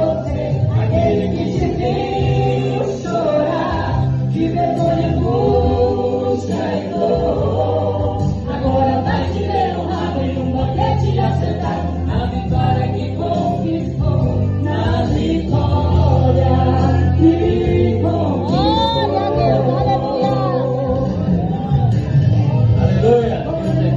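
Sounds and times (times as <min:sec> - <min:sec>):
choir singing gospel: 0:00.0 - 0:23.9.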